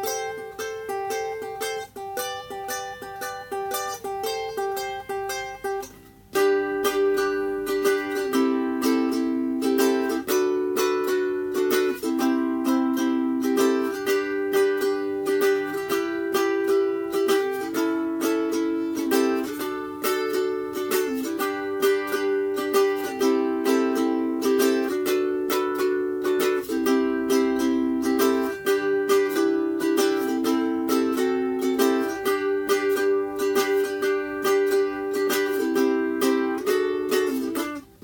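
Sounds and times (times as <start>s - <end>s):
ukulele strumming: 0.0s - 38.0s.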